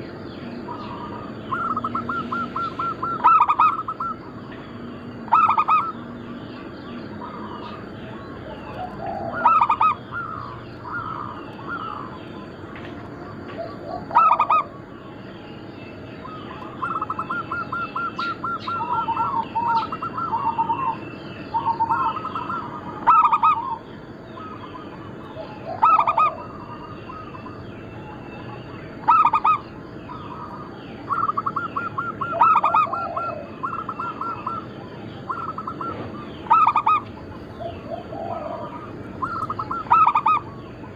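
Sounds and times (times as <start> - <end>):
doves cooing with rolling trills: 0.0 - 40.9
small birds chirping: 0.0 - 40.9.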